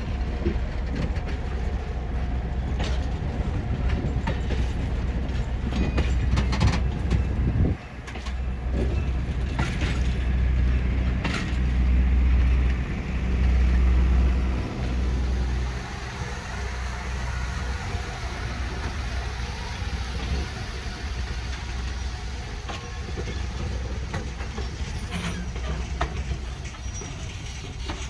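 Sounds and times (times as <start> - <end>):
diesel locomotive engine rumbling: 0.0 - 28.0.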